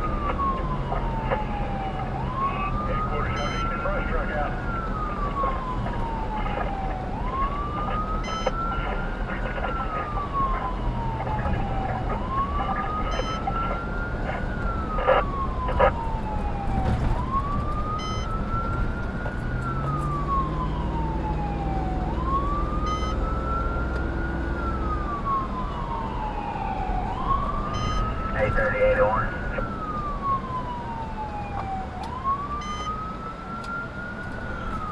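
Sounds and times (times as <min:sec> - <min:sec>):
road noise: 0:00.0 - 0:34.9
siren wailing: 0:00.0 - 0:34.9.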